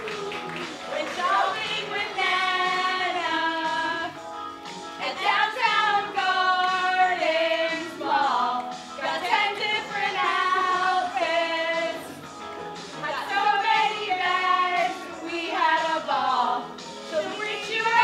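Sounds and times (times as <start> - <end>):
young women singing in unison: 0.9 - 4.2, 5.0 - 12.2, 13.0 - 18.0.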